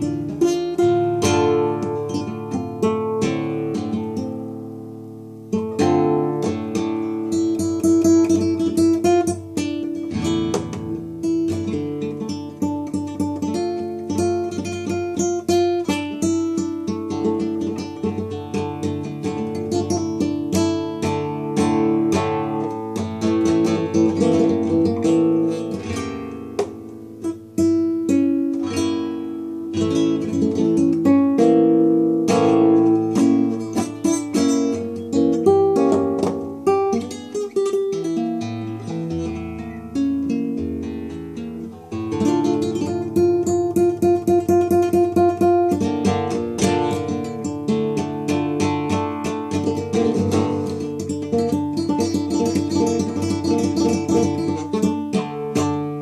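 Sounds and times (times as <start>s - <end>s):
acoustic guitar: 0.0s - 56.0s.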